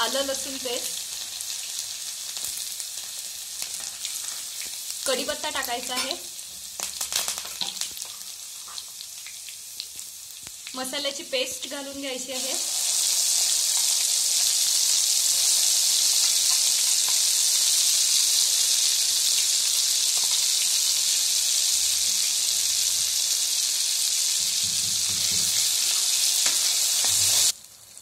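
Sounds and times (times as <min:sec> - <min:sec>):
paste sizzling in hot oil: 0:00.0 - 0:28.0.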